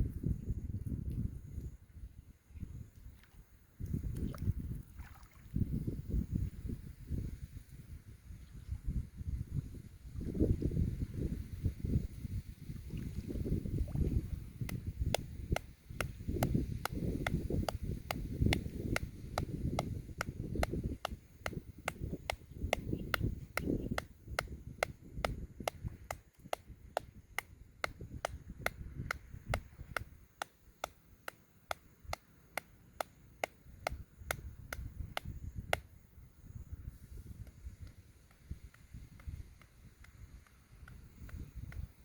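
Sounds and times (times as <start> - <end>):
wind rumbling on microphone: 0.0 - 30.9, 32.9 - 42.0.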